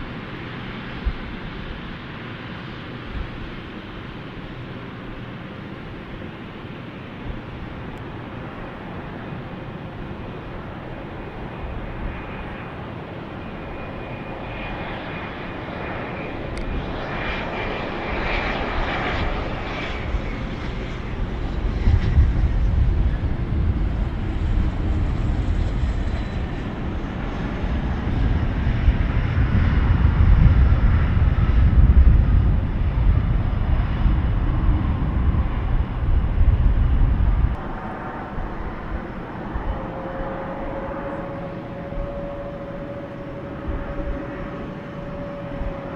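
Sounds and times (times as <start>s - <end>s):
airliner engines rumbling past: 0.0s - 45.9s.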